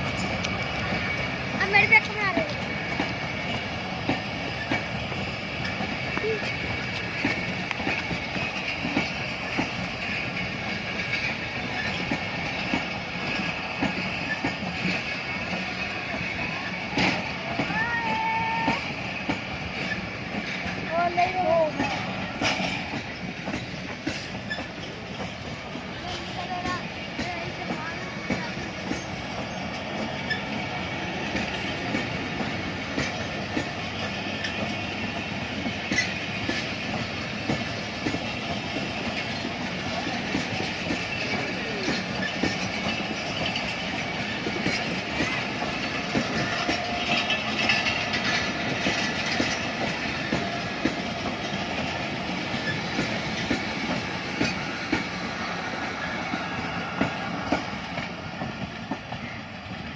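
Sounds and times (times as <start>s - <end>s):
train rumble: 0.0s - 59.9s
train wheels clattering over joints: 0.0s - 59.9s.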